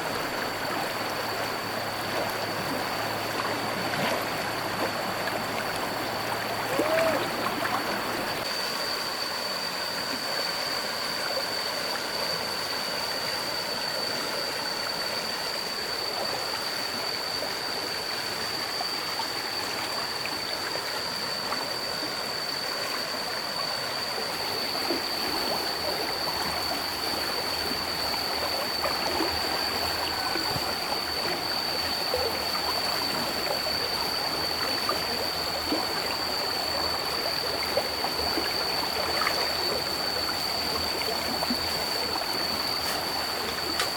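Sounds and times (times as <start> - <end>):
flowing water rushing: 0.0 - 43.9.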